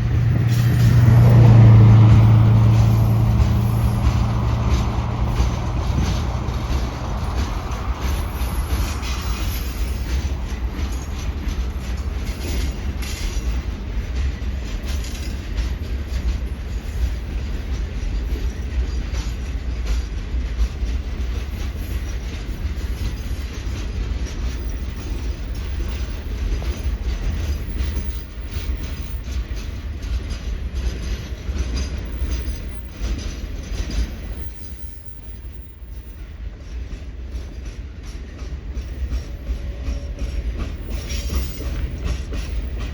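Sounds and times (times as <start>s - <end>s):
train rolling past: 0.0s - 42.9s
wheel clicks over rail joints: 0.4s - 35.7s.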